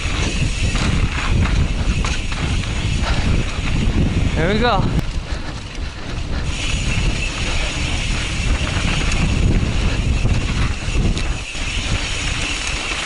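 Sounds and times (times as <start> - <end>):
bike knocking and rattling: 0.0 - 13.0
tyres rolling on dirt: 0.0 - 13.0
wind buffeting microphone: 0.0 - 13.0.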